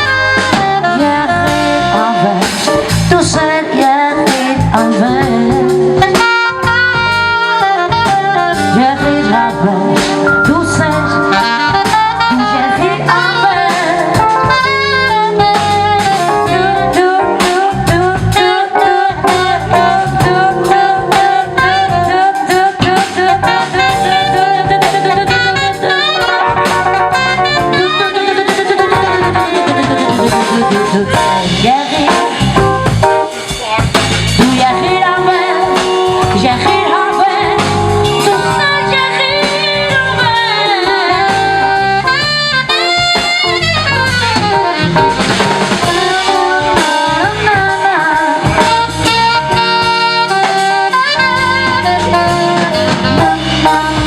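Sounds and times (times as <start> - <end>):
drum kit beat: 0.0 - 54.0
sustained melody line: 0.0 - 54.0.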